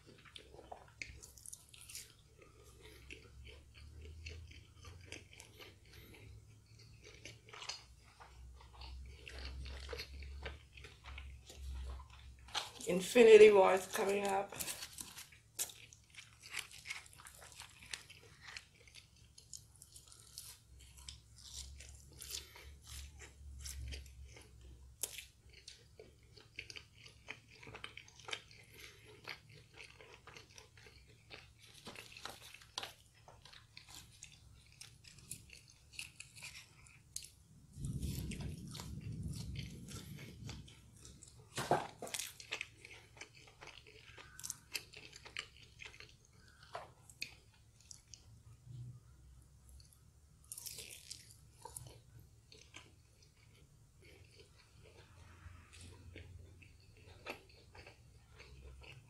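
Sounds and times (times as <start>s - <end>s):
crunching fried food: 0.0s - 59.0s.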